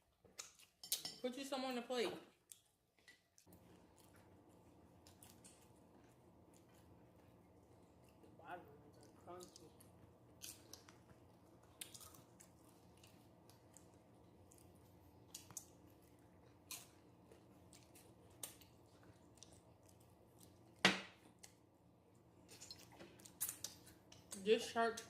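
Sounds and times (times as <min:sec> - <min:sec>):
faint steady hum: 0:02.2 - 0:25.0
chewing and crunching chips: 0:02.4 - 0:25.0.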